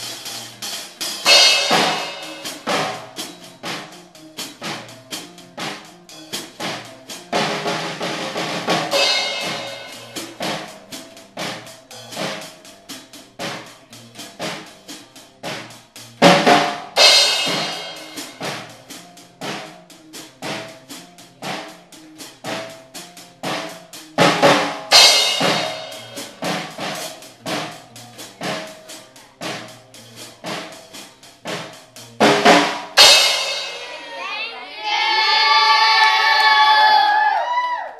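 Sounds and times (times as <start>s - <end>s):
drum kit rapid beat: 0.0s - 37.9s.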